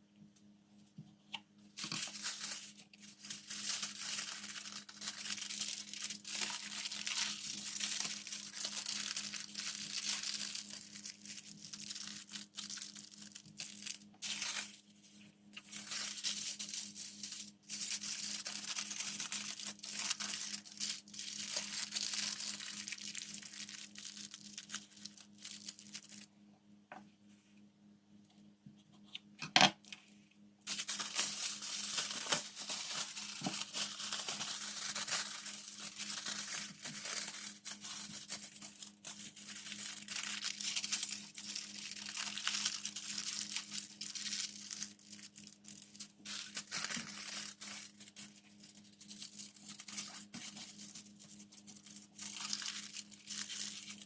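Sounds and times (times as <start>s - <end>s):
faint steady hum: 0.0s - 54.0s
packaging crinkling and tearing: 1.8s - 15.0s, 15.6s - 26.3s, 30.7s - 54.0s.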